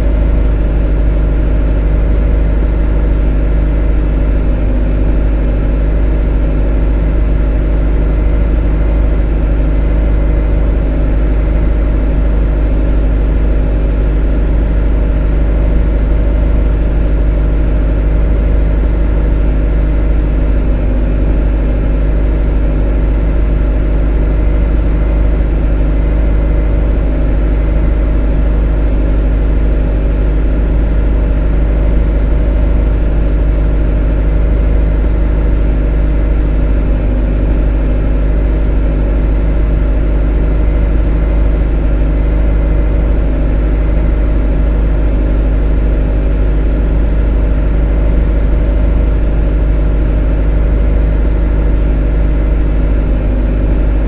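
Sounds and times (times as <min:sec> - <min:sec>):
motor droning: 0:00.0 - 0:54.0.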